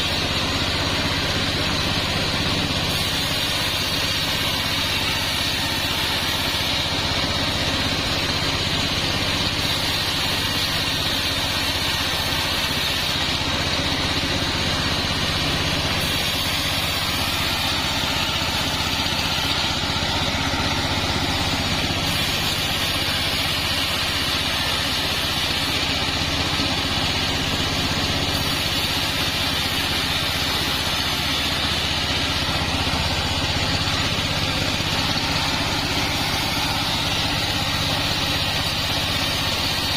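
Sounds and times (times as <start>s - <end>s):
machinery hiss: 0.0s - 8.6s, 9.2s - 39.9s
sawmill machinery drone: 0.0s - 39.9s.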